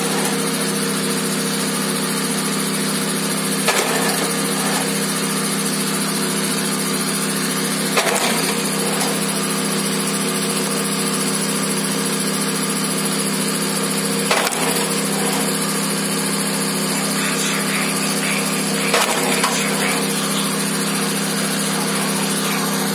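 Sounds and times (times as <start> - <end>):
small engine running: 0.0 - 22.9.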